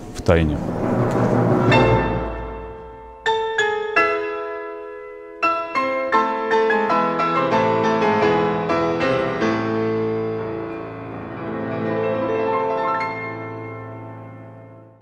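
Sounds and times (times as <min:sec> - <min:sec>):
piano instrumental music: 0:00.0 - 0:15.0.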